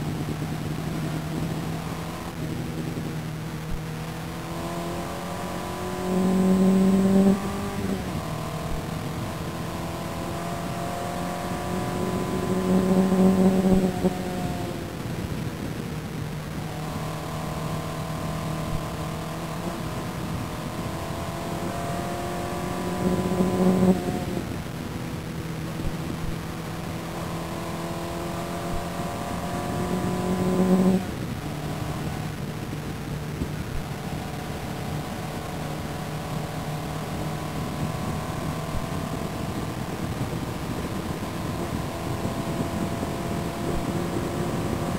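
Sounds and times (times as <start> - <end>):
race car engine accelerating: 0.0 - 44.9.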